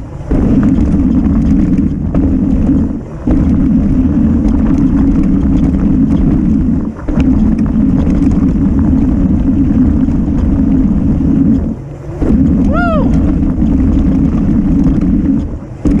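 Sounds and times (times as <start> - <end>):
bike clicks and rattles: 0.0 - 16.0
bike tyres on trail: 0.0 - 16.0
wind on microphone: 0.0 - 16.0.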